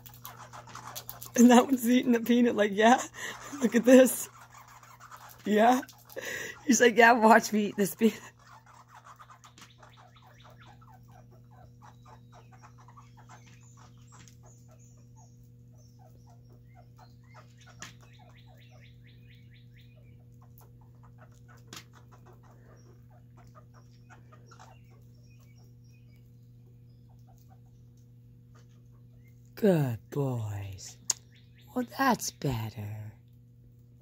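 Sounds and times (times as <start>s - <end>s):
squirrels gnawing faint clicks: 0.0s - 2.6s, 3.2s - 29.6s
steady low hum: 0.0s - 34.0s.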